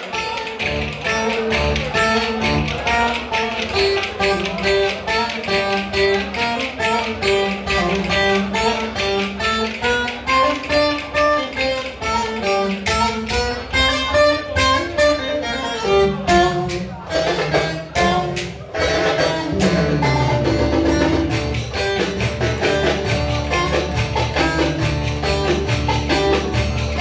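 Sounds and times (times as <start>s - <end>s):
plucked string folk dance tune: 0.0s - 27.0s.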